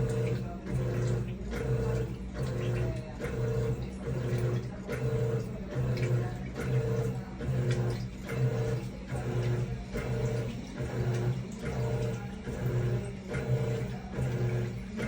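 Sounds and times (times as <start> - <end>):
washing machine motor hum: 0.0 - 15.0
water sloshing in tub: 0.0 - 15.0.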